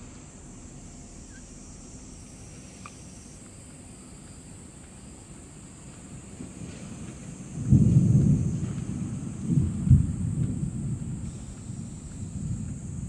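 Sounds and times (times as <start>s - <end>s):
insects chirring: 0.0s - 13.0s
low background rumble: 0.0s - 13.0s.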